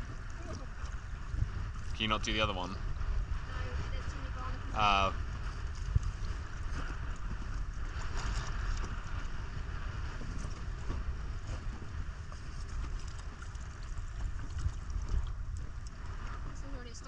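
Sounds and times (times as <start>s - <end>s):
water sloshing around boat: 0.0s - 17.0s
wind buffeting microphone: 0.0s - 17.0s.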